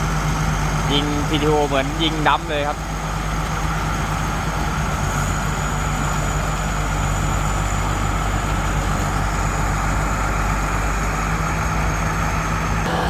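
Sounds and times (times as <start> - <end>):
combine harvester engine running: 0.0 - 13.0
steady high whine: 0.6 - 13.0.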